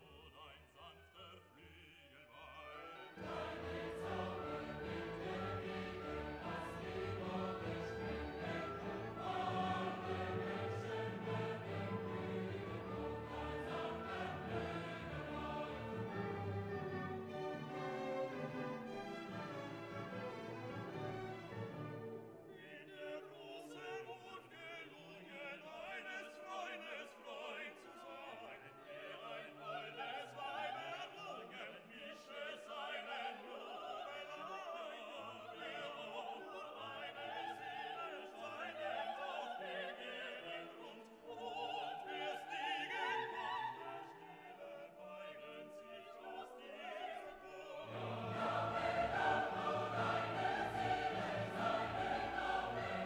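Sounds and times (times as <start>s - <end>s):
operatic singing with orchestra: 0.0s - 53.0s.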